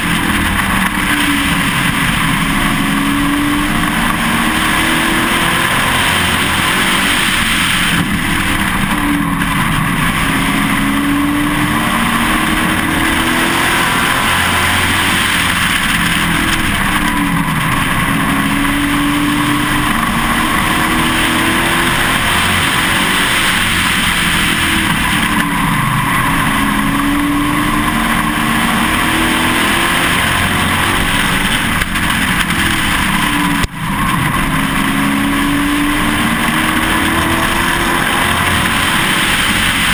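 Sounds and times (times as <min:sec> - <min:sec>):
race engine revving: 0:00.0 - 0:39.9
road and wind noise: 0:00.0 - 0:39.9.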